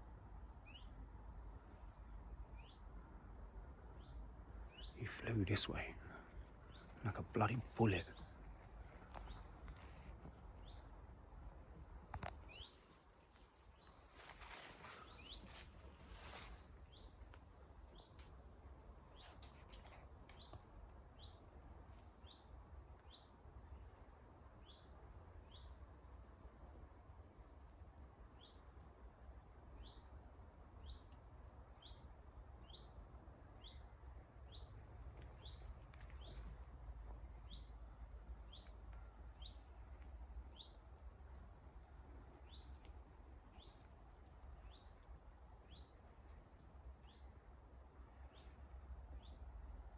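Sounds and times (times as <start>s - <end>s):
faint low rumble: 0.0s - 23.5s, 24.4s - 49.9s.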